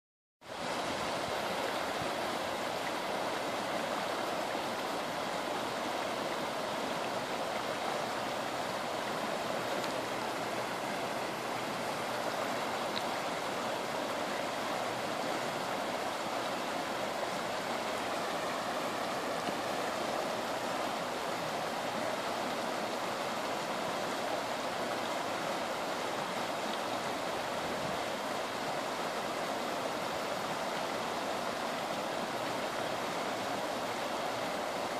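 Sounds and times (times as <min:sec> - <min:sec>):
floodwater rushing: 0:00.4 - 0:34.9.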